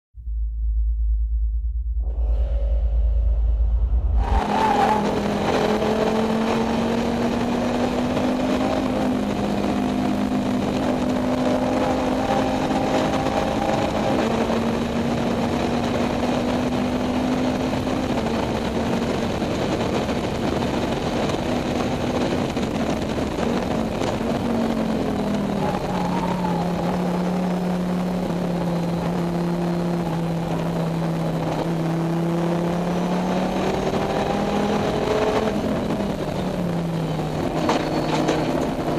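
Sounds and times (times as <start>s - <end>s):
tyre and wind noise: 3.9s - 38.9s
race car engine running hard: 4.2s - 38.9s.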